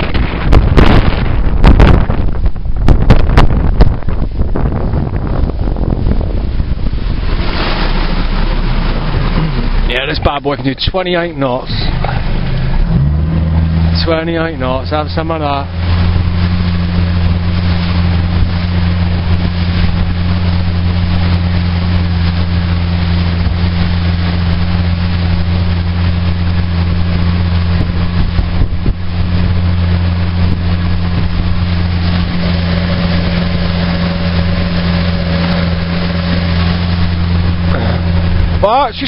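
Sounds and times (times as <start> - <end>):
outboard engine running: 0.0 - 39.0
rush of wind and water: 0.0 - 39.0.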